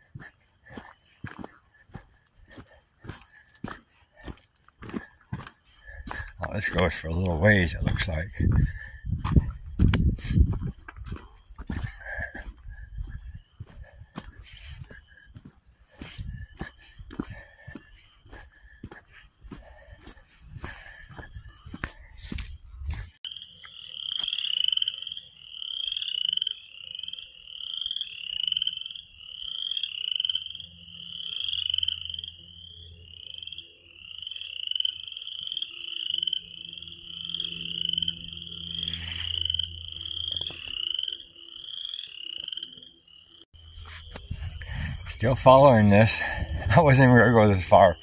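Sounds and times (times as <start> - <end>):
frogs peeping in chorus: 0.0 - 48.0.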